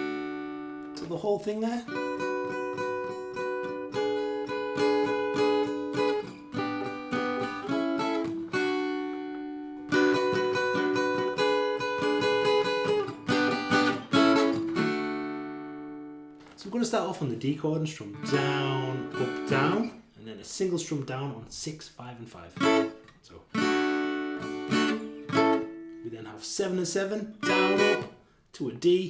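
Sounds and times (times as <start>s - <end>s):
acoustic guitar strumming: 0.0s - 21.7s, 22.4s - 28.4s.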